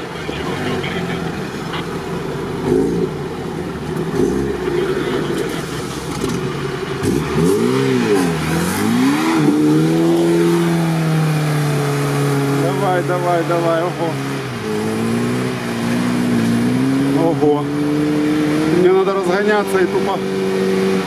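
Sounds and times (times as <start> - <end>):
engine revving hard: 0.0 - 21.0.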